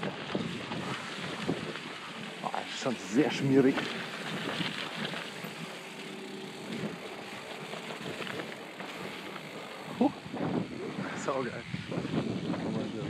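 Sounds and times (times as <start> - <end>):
bike tyres rolling on trail: 0.0 - 13.0.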